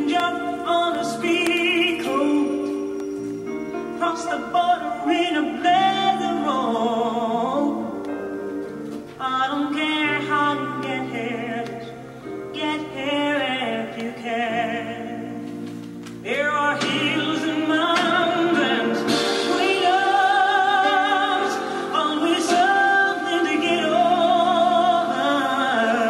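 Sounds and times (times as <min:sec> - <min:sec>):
person singing with vibrato: 0:00.0 - 0:26.0.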